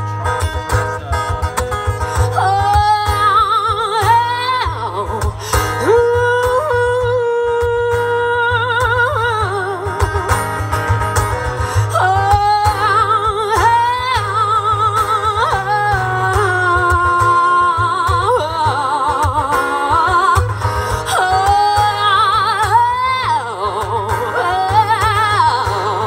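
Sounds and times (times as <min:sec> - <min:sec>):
strummed acoustic guitar: 0:00.0 - 0:26.0
woman singing through a pa: 0:02.2 - 0:10.6, 0:11.8 - 0:26.0.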